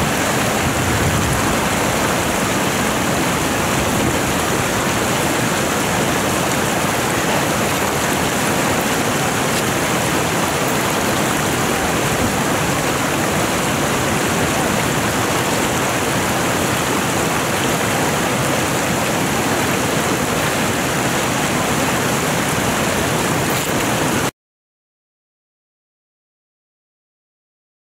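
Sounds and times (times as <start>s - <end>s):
stream rushing over rocks: 0.0s - 24.3s.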